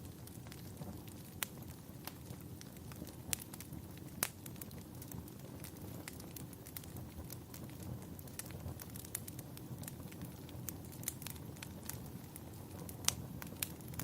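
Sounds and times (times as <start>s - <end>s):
fire crackles and pops: 0.0s - 14.0s
wood fire burning: 0.0s - 14.0s.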